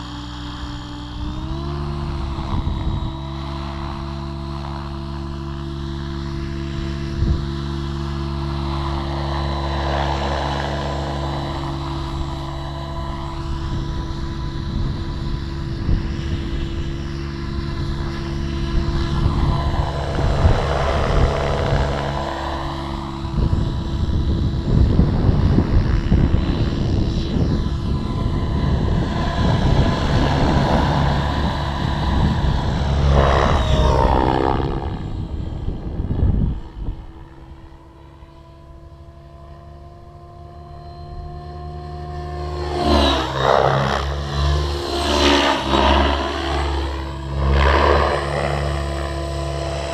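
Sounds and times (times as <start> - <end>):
rc helicopter rotor whine: 0.0 - 49.9
wind rumble on microphone: 0.0 - 49.9.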